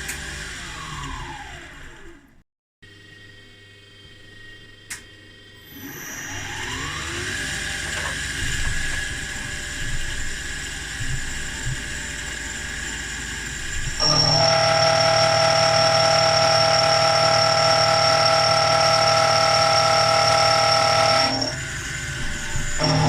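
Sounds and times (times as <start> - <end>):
machine tool hum: 0.0 - 23.0.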